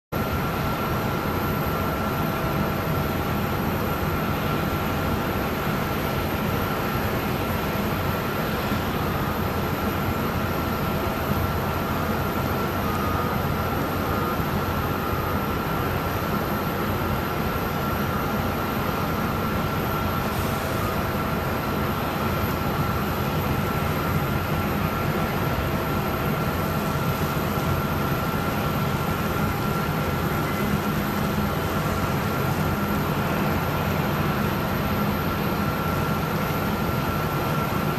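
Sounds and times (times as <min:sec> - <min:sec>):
high-pitched pump whine: 0:00.2 - 0:37.9.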